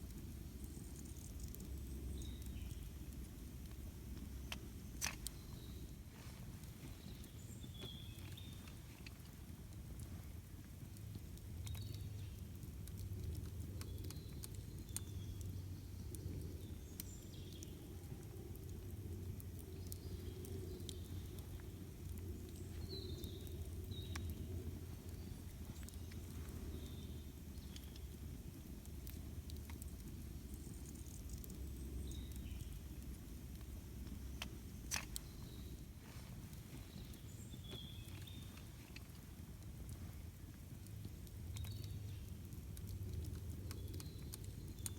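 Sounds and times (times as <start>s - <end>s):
campfire crackling and popping: 0.0s - 44.9s
low steady fire rumble: 0.0s - 44.9s.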